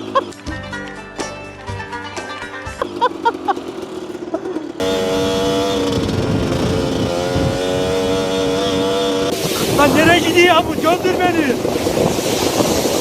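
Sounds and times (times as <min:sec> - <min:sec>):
off-road motorcycle engine: 0:00.0 - 0:13.0.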